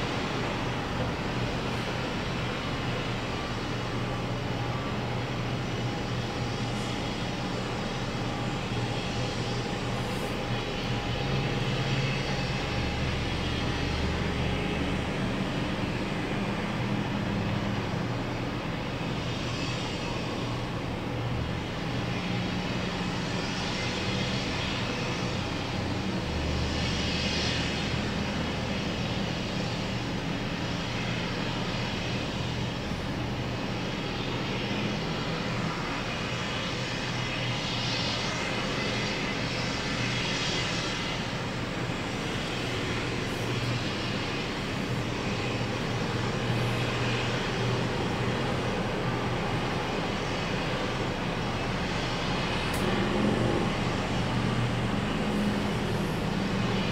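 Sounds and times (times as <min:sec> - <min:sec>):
engine running low drone: 0:00.0 - 0:56.9.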